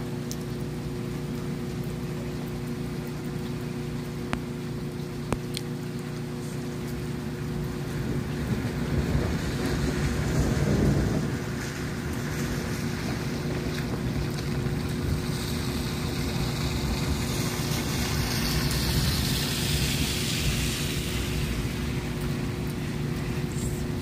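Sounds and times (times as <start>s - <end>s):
low rumble of wind: 0.0s - 24.0s
rain hissing: 0.0s - 24.0s.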